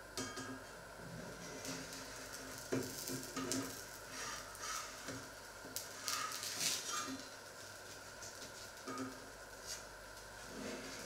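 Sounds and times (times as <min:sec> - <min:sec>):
pancake sizzling in a frying pan: 0:01.2 - 0:11.0.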